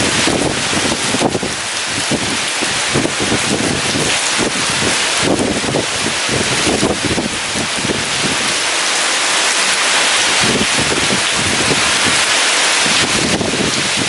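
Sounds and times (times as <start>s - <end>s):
heavy rain pouring: 0.0s - 14.0s
strong wind gusting: 0.0s - 14.0s.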